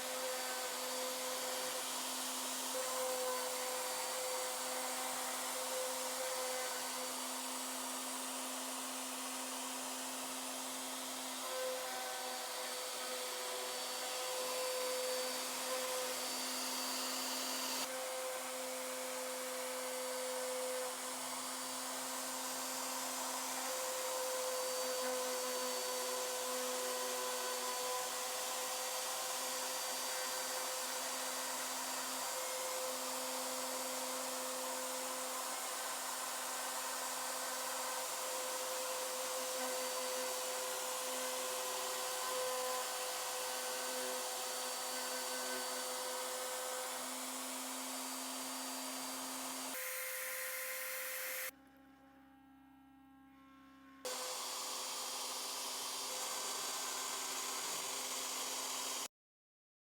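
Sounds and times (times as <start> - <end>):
router spindle whine cutting wood: 0.0 - 51.5, 54.1 - 59.1.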